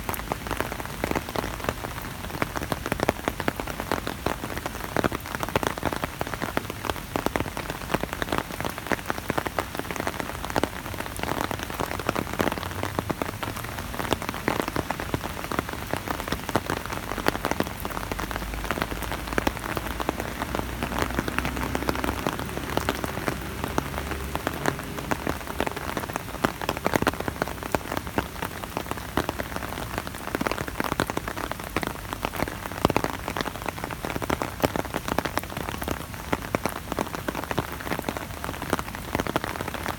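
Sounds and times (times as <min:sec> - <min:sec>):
rain pattering on umbrella: 0:00.0 - 0:39.9.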